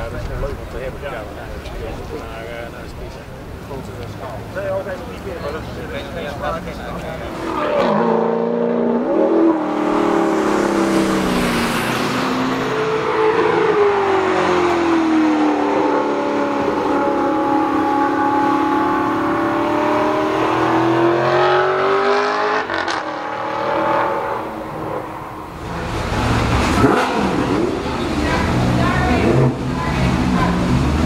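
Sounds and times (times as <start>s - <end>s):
car engine accelerating hard: 6.0s - 31.0s.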